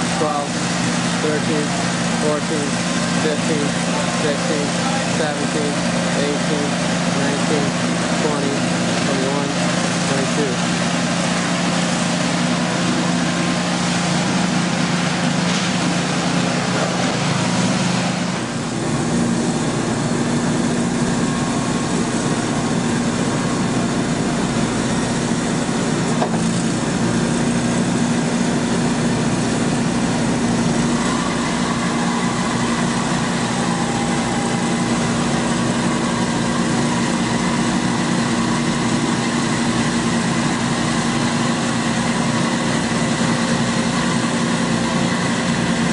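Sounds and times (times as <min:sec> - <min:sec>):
machine engine humming: 0:00.0 - 0:45.9.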